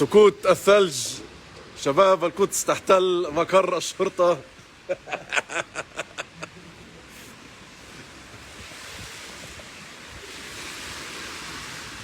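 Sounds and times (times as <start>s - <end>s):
outdoor wind hiss: 0.0s - 12.0s.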